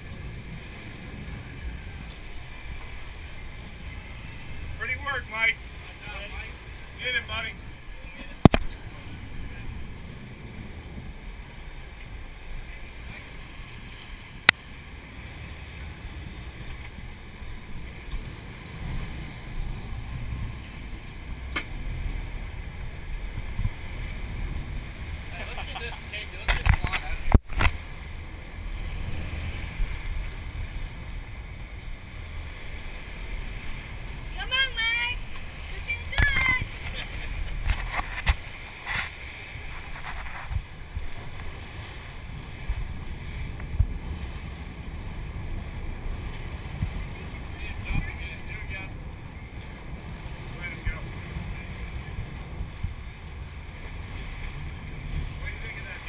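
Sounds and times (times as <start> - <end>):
wind on microphone: 0.0 - 4.8, 6.7 - 25.4, 26.4 - 56.0
boat running through sea: 0.0 - 56.0
water rushing along hull: 0.0 - 56.0.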